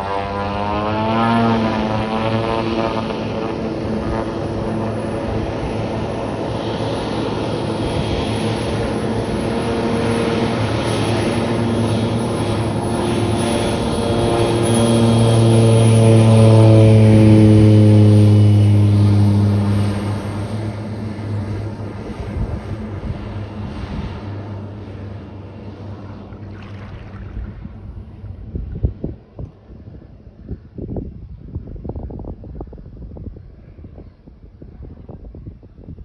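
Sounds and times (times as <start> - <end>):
floatplane propeller engine: 0.0 - 36.0.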